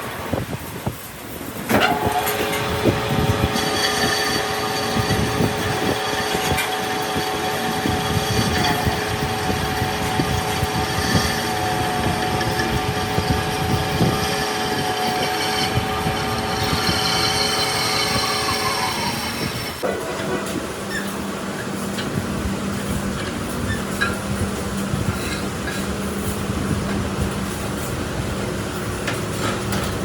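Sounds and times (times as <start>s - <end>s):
workshop machine whining: 0.4s - 30.0s.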